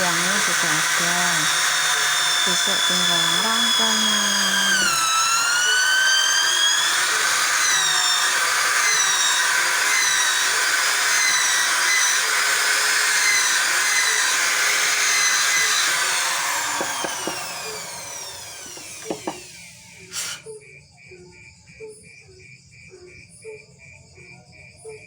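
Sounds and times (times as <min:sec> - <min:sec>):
power tool motor whining: 0:00.0 - 0:20.5.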